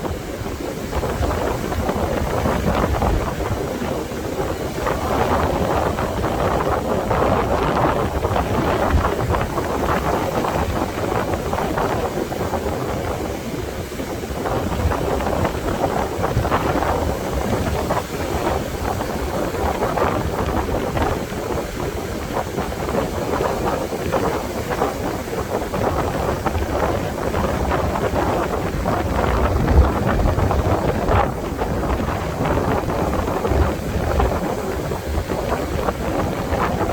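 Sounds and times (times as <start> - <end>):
ocean surf breaking: 0.0 - 36.9
wind buffeting microphone: 0.0 - 36.9.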